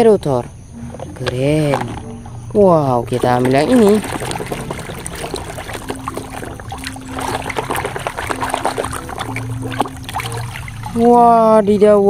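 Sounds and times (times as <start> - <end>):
water splashing and trickling: 0.3 - 12.0.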